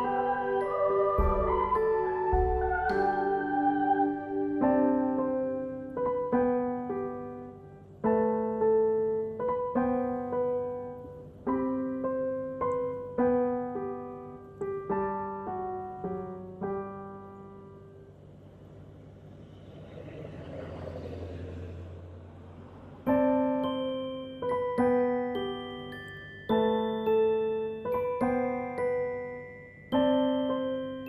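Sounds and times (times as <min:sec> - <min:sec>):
gentle piano music: 0:00.0 - 0:19.4, 0:22.8 - 0:31.0.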